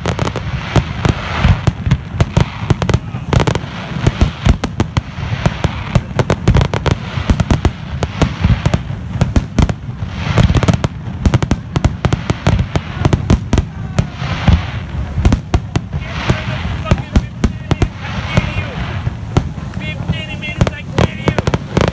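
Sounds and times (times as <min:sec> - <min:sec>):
fireworks bursting: 0:00.0 - 0:21.9.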